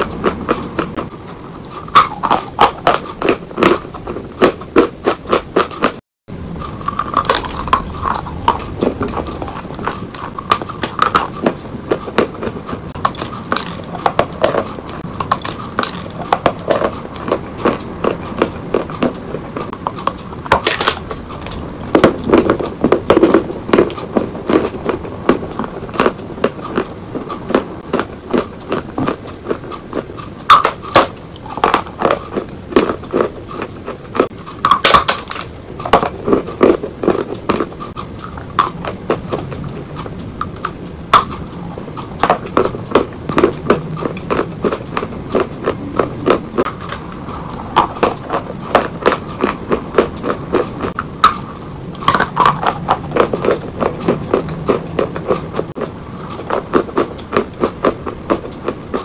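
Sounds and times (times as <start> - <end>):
crunching dry clay: 0.0 - 59.0.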